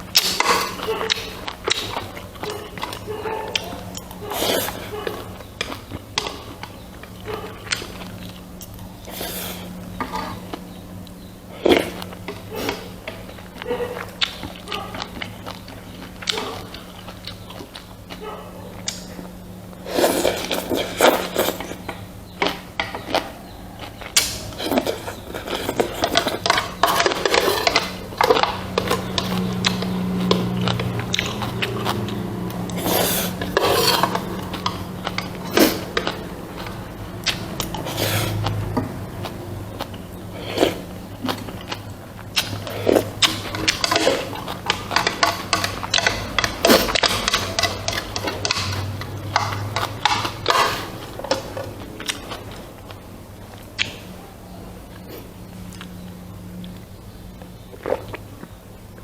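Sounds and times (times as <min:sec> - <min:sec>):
person chewing food: 0:00.0 - 0:59.0
steady low hum: 0:00.0 - 0:59.0.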